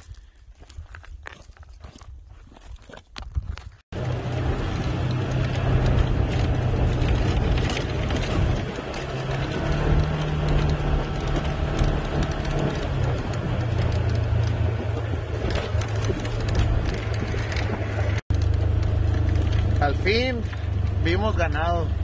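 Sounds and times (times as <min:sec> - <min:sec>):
knocks and rattles: 0:03.3 - 0:21.0
vehicle engine running: 0:03.9 - 0:22.0.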